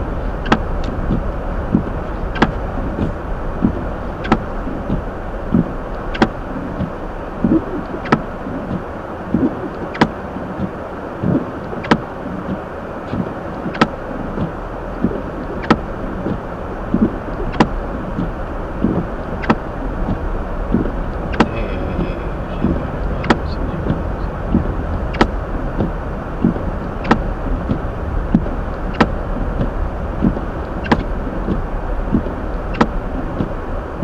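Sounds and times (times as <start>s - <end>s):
road and engine rumble in car: 0.0s - 34.0s.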